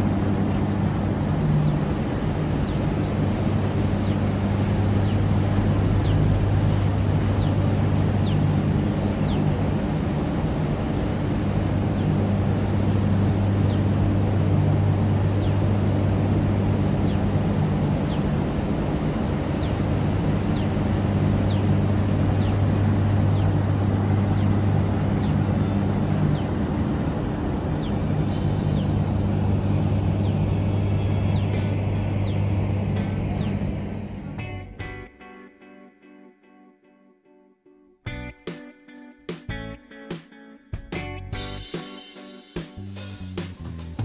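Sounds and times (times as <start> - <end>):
constant low hum: 0.0 - 35.7, 38.1 - 38.5, 40.8 - 44.0.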